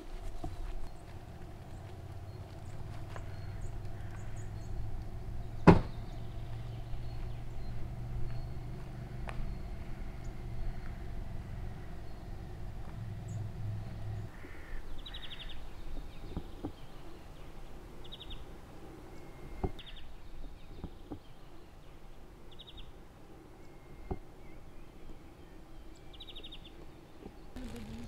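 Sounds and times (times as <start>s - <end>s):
small birds chirping: 0.0s - 23.0s, 23.6s - 28.0s.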